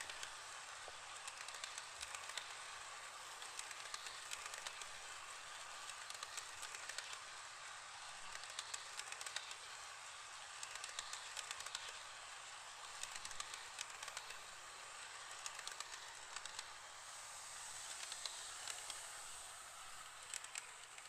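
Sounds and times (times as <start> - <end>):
model train rolling hiss: 0.0 - 21.0.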